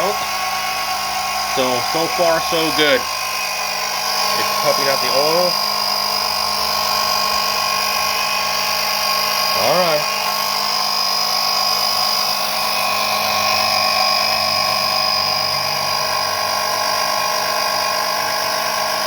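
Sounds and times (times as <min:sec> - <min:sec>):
electric pump whining: 0:00.0 - 0:19.0.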